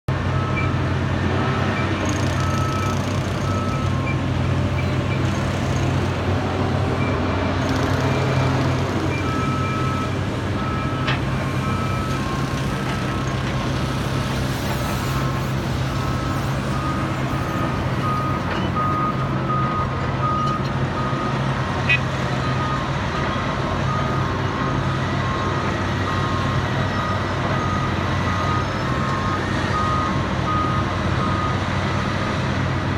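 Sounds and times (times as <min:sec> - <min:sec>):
diesel truck engines running: 0:00.1 - 0:32.9.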